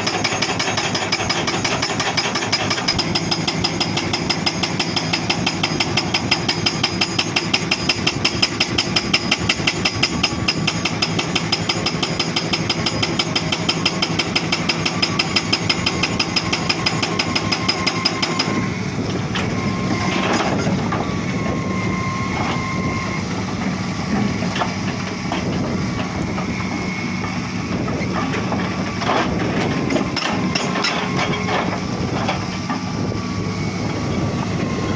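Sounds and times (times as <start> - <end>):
hydraulic rock breaker hammering: 0.0 - 21.6, 23.4 - 32.9
excavator engine running: 0.0 - 34.9.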